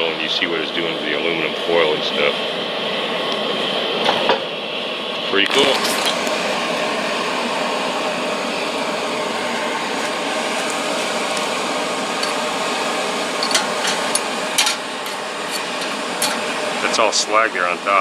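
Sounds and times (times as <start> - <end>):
blower whooshing hum: 0.0 - 18.0.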